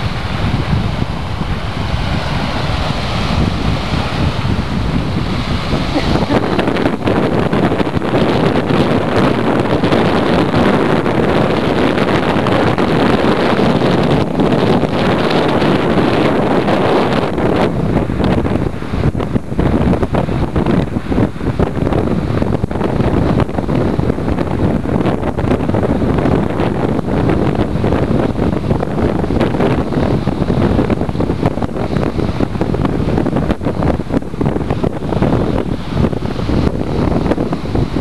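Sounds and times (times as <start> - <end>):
sea surf: 0.0 - 38.0
wind buffeting microphone: 0.0 - 38.0.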